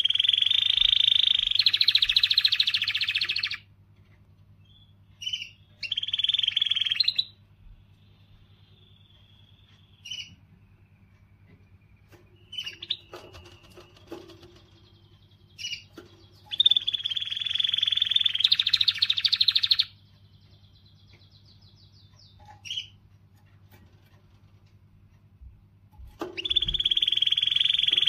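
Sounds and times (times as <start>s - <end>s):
canary rapid trill: 0.0s - 3.7s, 4.7s - 24.6s, 26.0s - 28.0s
canary chirps: 0.0s - 28.0s.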